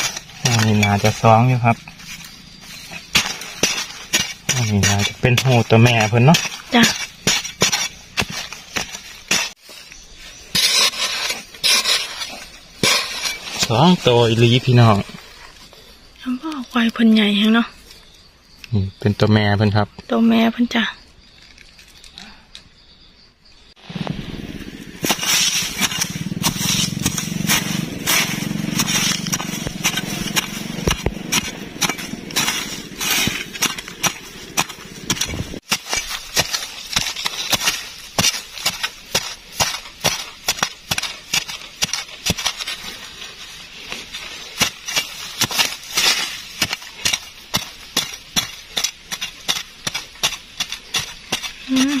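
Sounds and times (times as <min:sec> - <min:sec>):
digging tool chopping sandy soil: 0:00.0 - 0:15.3, 0:23.9 - 0:52.0.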